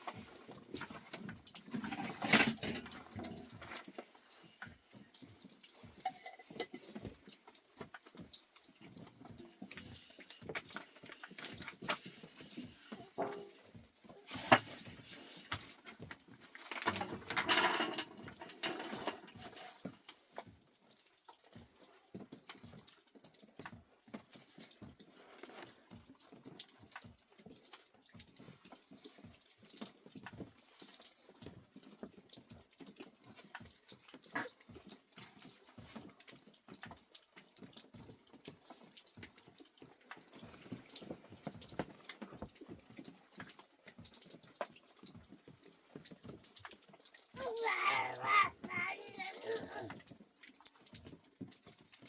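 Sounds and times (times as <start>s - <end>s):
rain dripping: 0.0s - 52.0s.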